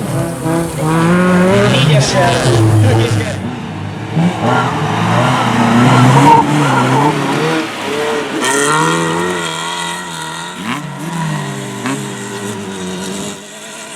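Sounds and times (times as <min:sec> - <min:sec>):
rally car engine revving: 0:00.0 - 0:13.9.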